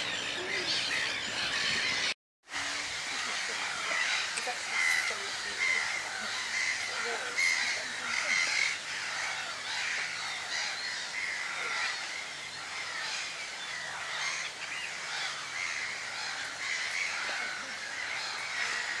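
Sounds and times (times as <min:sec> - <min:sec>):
birds calling in woodland: 0:00.0 - 0:19.0.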